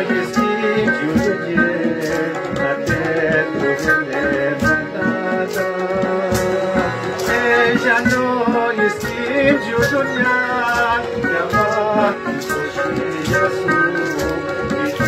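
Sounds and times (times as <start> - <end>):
drum strokes: 0.0 - 15.0
man singing into microphone: 0.0 - 15.0.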